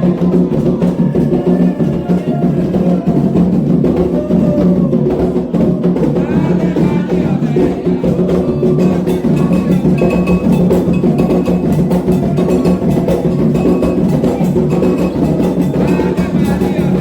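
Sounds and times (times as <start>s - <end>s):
hand drums playing fast rhythm: 0.0s - 17.0s
voices chanting: 0.0s - 17.0s.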